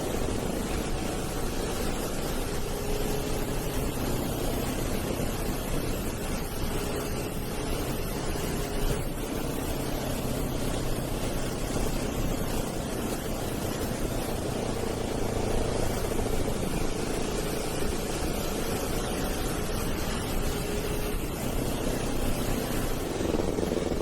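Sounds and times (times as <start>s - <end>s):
motorcycle engine running: 0.0s - 24.0s
wind noise over microphone: 0.0s - 24.0s.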